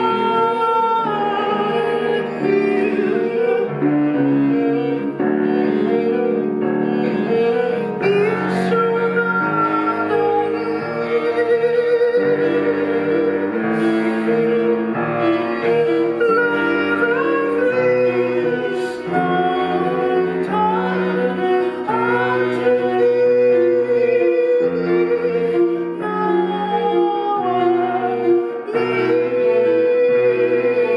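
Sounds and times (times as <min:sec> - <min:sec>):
bowed strings: 0:00.0 - 0:30.9
piano chords: 0:00.0 - 0:30.9
sliding melody line: 0:00.0 - 0:30.9.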